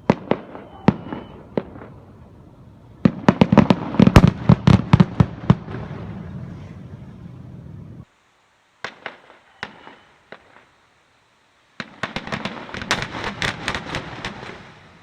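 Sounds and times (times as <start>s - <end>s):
firework bangs: 0.0s - 8.1s, 8.8s - 10.8s, 11.8s - 15.0s
firework crackling: 0.0s - 8.2s, 8.8s - 15.0s.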